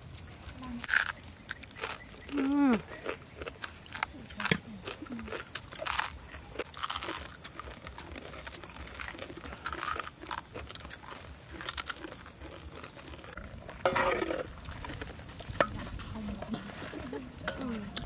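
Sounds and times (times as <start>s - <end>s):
people crunching crisp rice: 0.0s - 18.0s.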